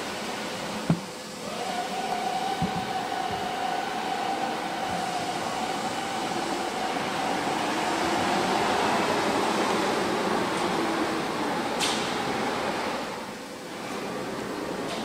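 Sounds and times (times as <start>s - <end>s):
constant hiss: 0.0s - 15.0s
cnc router whine: 0.1s - 15.0s.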